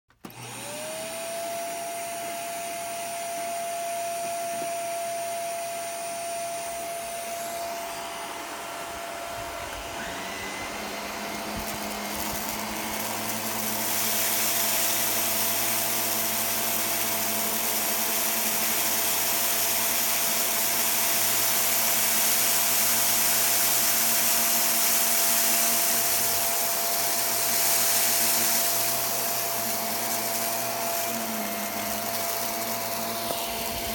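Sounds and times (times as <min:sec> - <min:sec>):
vacuum cleaner motor whine: 0:00.1 - 0:33.9.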